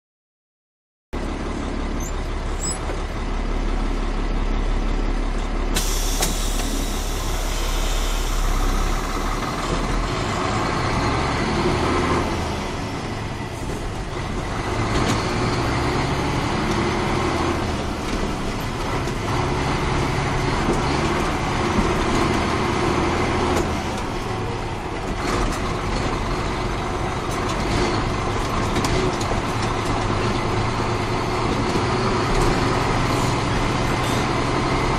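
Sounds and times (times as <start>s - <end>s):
diesel truck engine driving: 1.2s - 34.9s.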